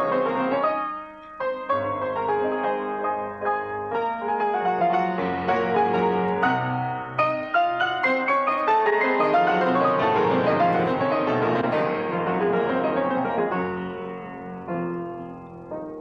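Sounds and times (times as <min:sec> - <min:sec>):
solo grand piano: 0:00.0 - 0:16.0.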